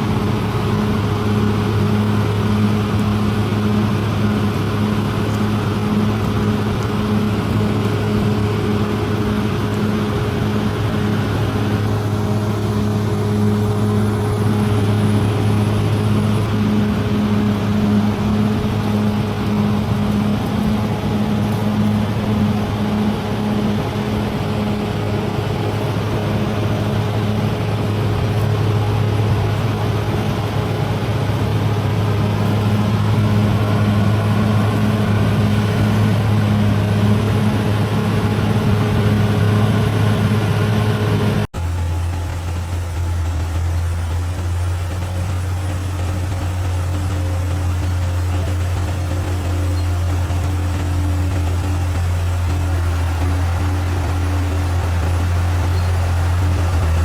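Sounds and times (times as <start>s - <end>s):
diesel engine running steadily: 0.0s - 57.0s.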